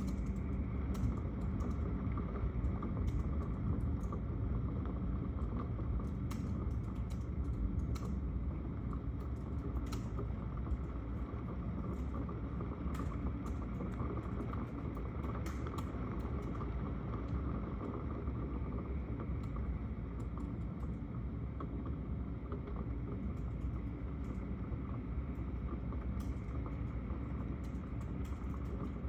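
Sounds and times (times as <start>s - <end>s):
sharp ticks of raindrops: 0.0s - 21.0s, 21.6s - 29.0s.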